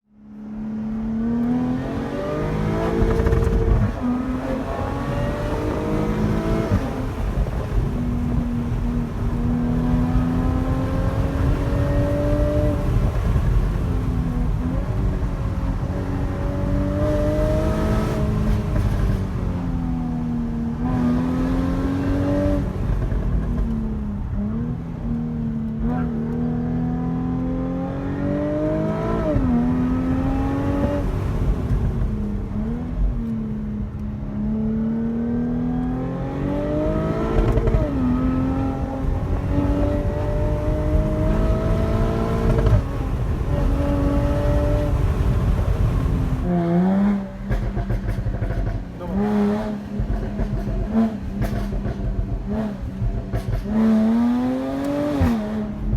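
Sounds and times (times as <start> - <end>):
car engine accelerating through gears: 0.3 - 55.9.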